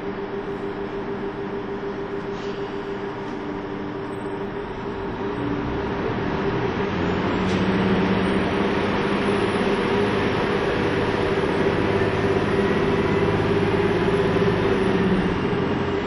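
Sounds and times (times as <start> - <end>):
diesel engine drone: 0.0 - 16.0
rail rumble: 0.0 - 16.0.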